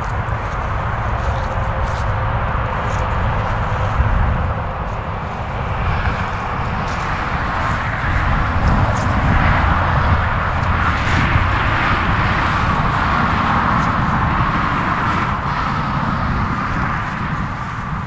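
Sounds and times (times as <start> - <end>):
highway traffic tyre hiss: 0.0 - 18.0
wind buffeting microphone: 0.0 - 18.0.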